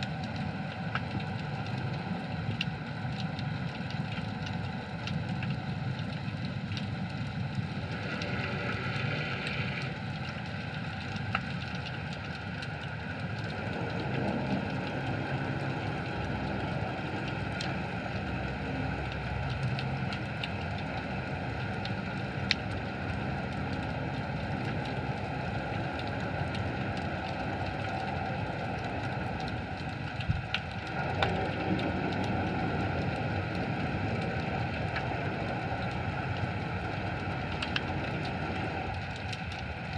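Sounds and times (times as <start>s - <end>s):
crackle of faint clicks: 0.0s - 39.9s
underwater low rumble: 0.0s - 39.9s.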